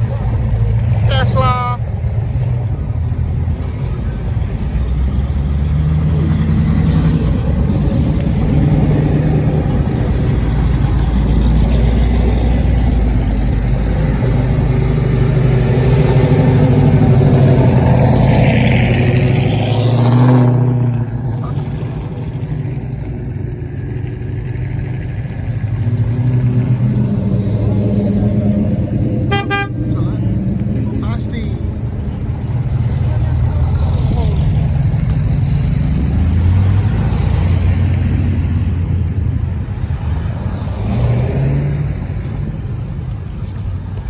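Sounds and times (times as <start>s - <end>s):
low engine sound: 0.0s - 44.0s
vehicle passing close by: 0.0s - 44.0s.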